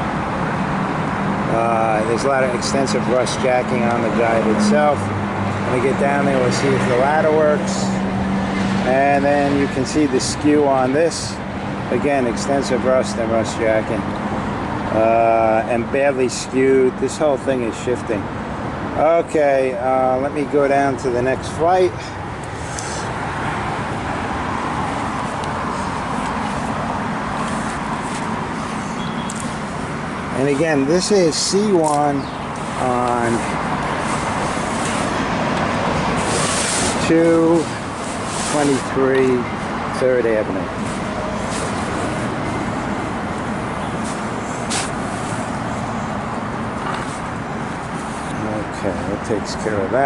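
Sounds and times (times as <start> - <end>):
road traffic rush: 0.0 - 50.0.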